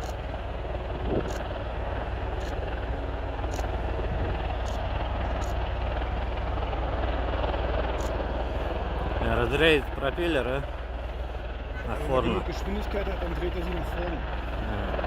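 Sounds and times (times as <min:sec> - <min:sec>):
helicopter rumble: 0:00.0 - 0:15.0.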